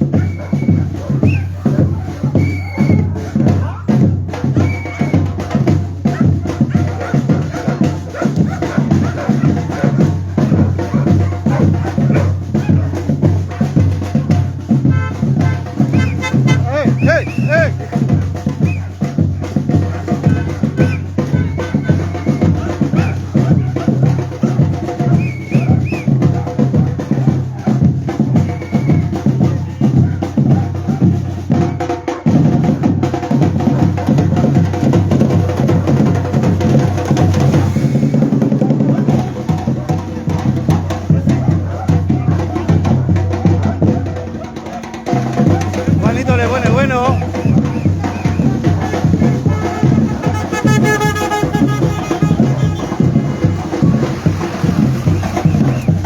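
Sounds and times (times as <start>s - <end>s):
deep drums: 0.0s - 56.0s
light percussion: 0.0s - 56.0s.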